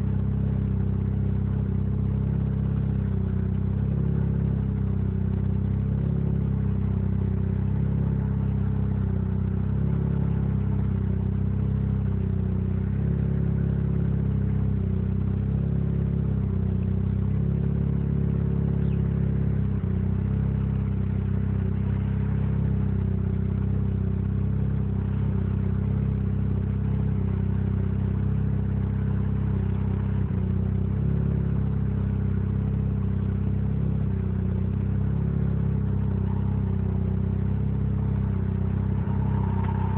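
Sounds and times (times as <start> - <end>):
rotary engine idling roughly: 0.0 - 39.9.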